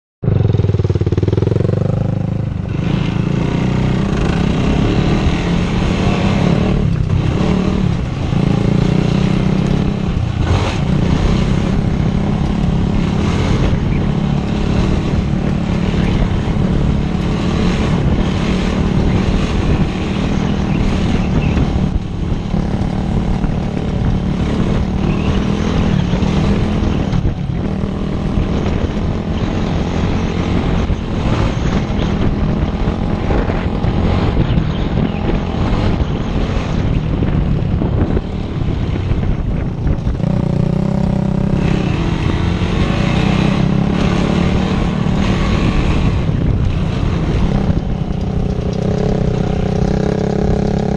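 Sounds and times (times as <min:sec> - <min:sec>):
quad bike engine running: 0:00.2 - 0:50.9.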